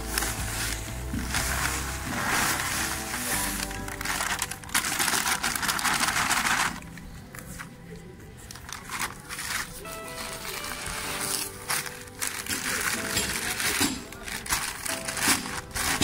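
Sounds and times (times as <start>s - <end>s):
plastic sack crinkling: 0.0s - 7.7s, 8.4s - 16.0s.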